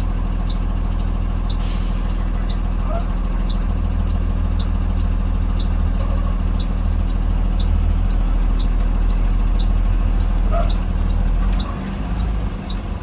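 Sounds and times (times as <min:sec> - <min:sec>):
bus engine droning: 0:00.0 - 0:13.0
light ticking: 0:00.0 - 0:13.0.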